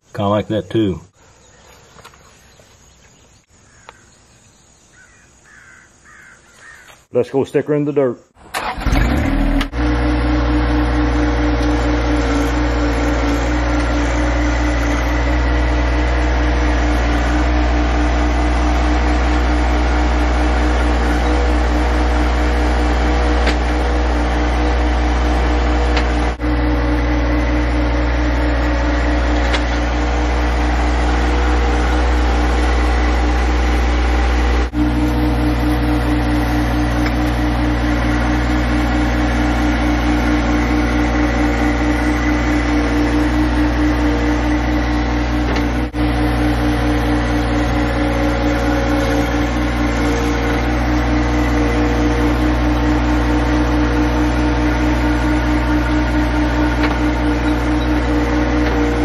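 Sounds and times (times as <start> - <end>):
tractor diesel engine running: 8.4 - 59.0
loader digging into soil: 8.6 - 59.0.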